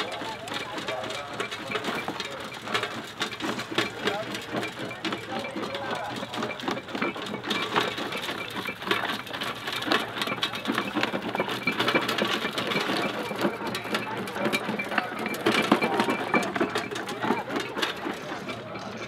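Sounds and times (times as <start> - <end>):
machine ticking: 0.0 - 19.0.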